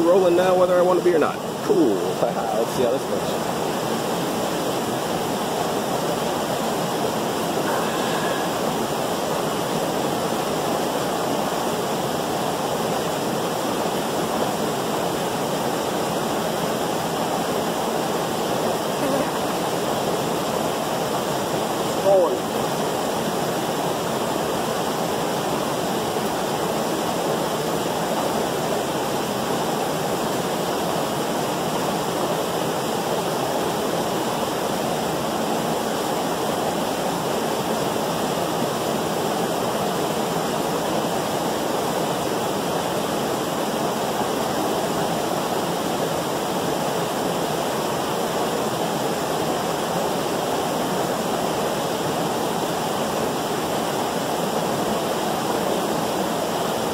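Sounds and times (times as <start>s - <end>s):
waterfall rushing water: 0.0s - 56.9s.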